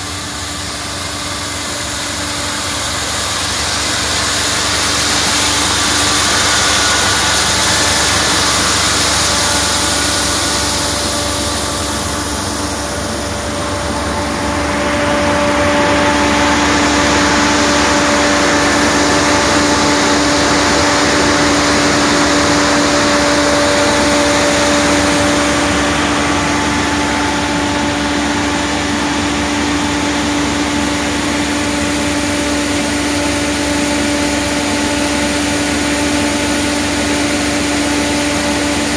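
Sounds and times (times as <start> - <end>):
snow gun fan rushing: 0.0 - 38.9
steady hum: 0.0 - 38.9.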